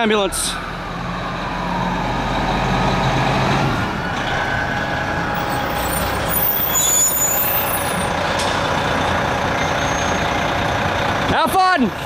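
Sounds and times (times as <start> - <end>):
fire engine diesel engine: 0.0 - 12.0.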